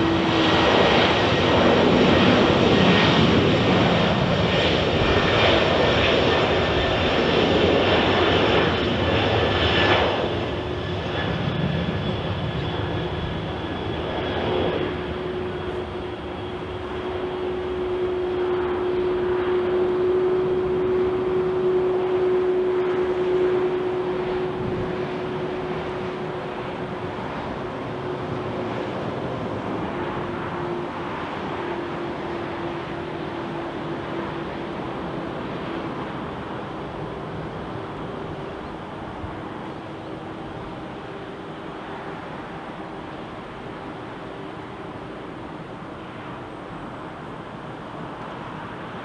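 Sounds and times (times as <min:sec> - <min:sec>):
jet airliner engines passing: 0:00.0 - 0:49.0.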